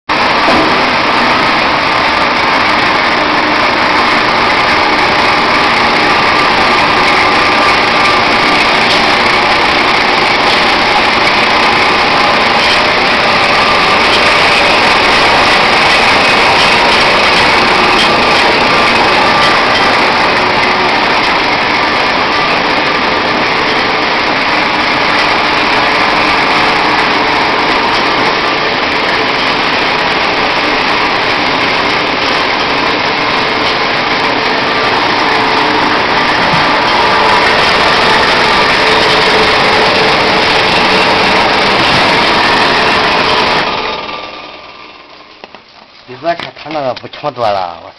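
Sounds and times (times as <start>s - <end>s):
machine motor whirring: 0.1s - 45.6s.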